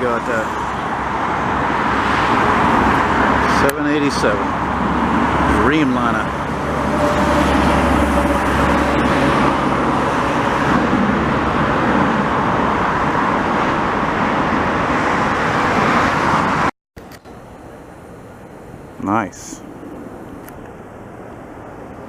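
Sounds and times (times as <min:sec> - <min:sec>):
jet plane passing overhead: 0:00.0 - 0:16.7, 0:17.3 - 0:22.0.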